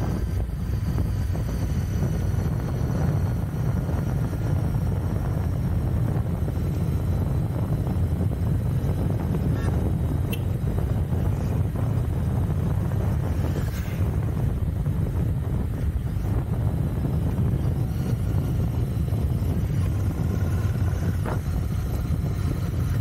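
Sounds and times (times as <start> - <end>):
motorcycle engine cruising: 0.0 - 23.0
wind buffeting microphone: 0.0 - 23.0.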